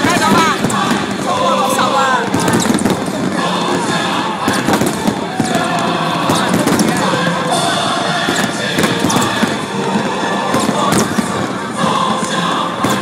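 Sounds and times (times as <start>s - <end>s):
crowd hubbub: 0.0s - 13.0s
fireworks bangs and crackles: 0.0s - 13.0s.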